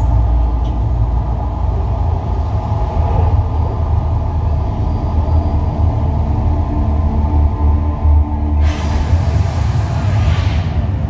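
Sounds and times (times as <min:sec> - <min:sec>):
deep rumble with low drone: 0:00.0 - 0:11.0.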